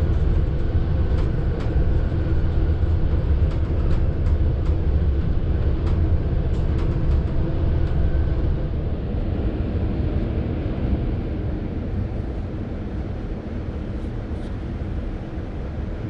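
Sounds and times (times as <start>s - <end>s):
train coach rumbling on rails: 0.0s - 16.0s.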